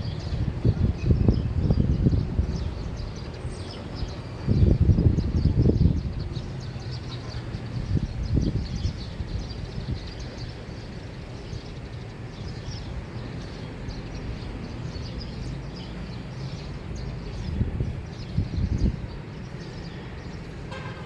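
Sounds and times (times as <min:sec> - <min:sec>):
distant traffic rumble: 0:00.0 - 0:21.0
small birds chirping: 0:00.0 - 0:21.0.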